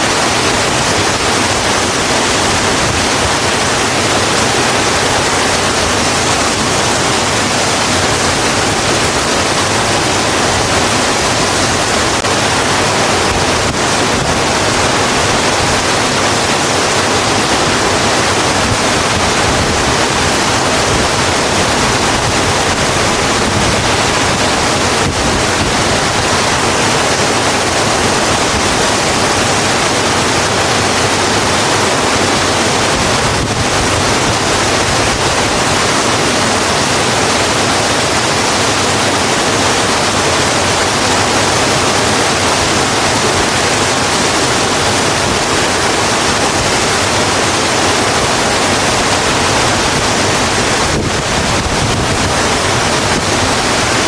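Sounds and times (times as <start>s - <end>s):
rain falling on a road: 0.0s - 54.0s.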